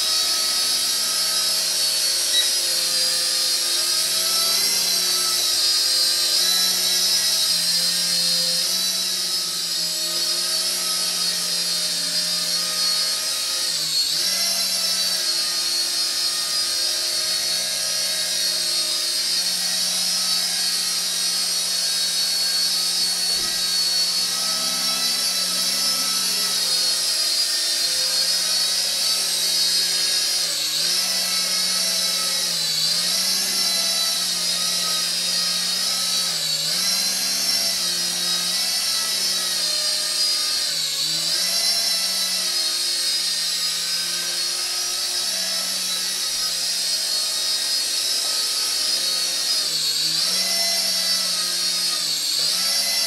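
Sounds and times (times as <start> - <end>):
toy helicopter rotors whining: 0.0 - 53.0.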